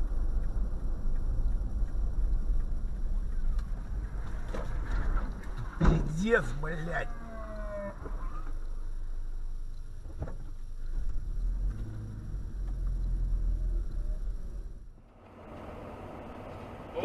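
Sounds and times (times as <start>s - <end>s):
car engine rumble: 0.0s - 17.0s
road noise inside car: 0.0s - 17.0s.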